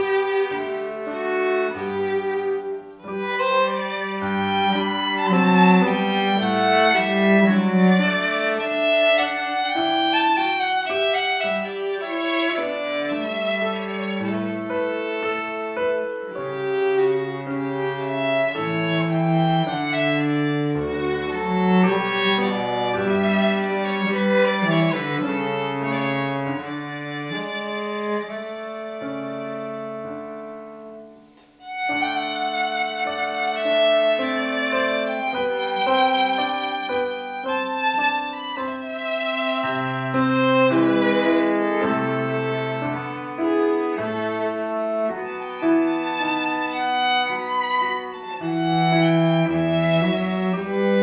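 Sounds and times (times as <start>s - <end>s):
cello line: 0.0s - 51.0s
violin melody: 0.0s - 51.0s.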